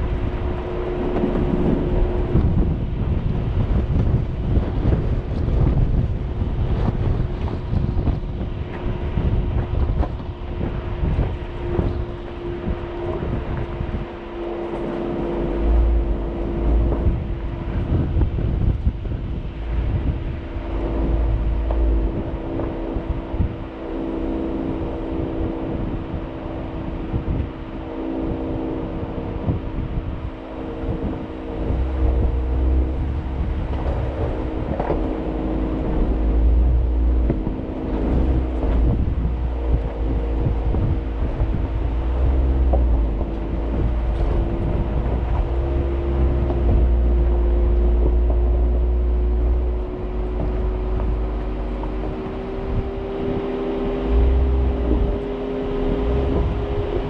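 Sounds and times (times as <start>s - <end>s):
engine running at low revs: 0.0s - 57.0s
wind rumble on microphone: 0.0s - 57.0s.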